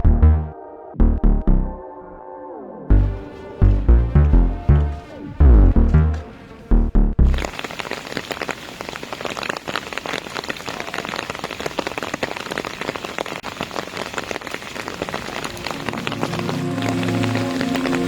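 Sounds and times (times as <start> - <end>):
heavy rain on hard surfaces: 2.9 - 18.0.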